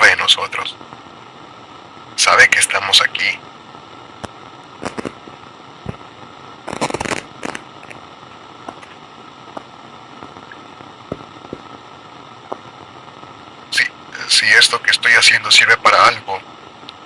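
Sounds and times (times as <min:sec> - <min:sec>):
static crackles and pops: 0:00.0 - 0:17.0
walkie-talkie static hiss: 0:00.0 - 0:17.0.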